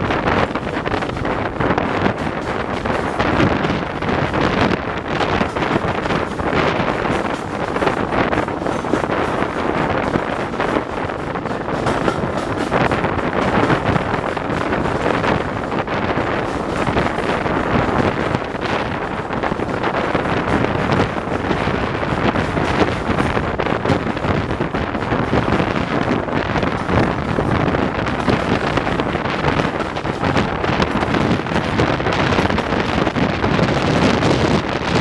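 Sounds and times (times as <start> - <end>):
train coaches rumbling on track: 0.0 - 35.0
wind buffeting microphone: 0.0 - 35.0.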